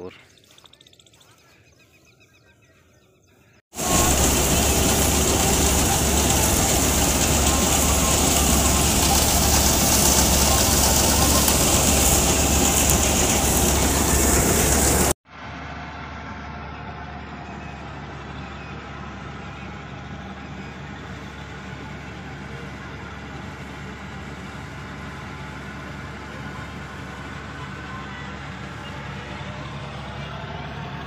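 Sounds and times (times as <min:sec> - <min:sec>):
tractor diesel engine idling: 0:03.8 - 0:31.0.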